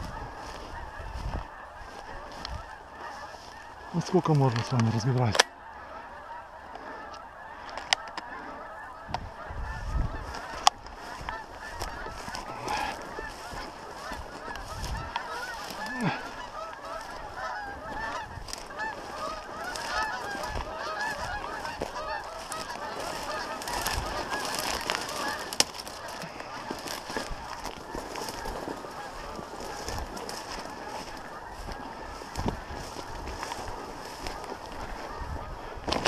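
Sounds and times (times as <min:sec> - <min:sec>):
flock of geese honking: 0:00.0 - 0:36.0.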